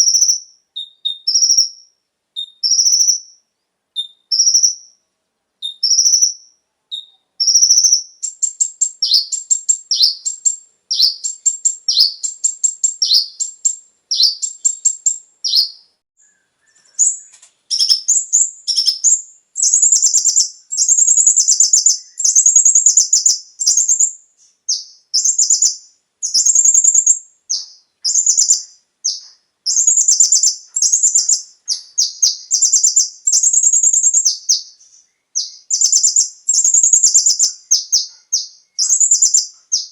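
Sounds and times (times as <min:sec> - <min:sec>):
sunbird chirping: 0:00.0 - 0:39.9.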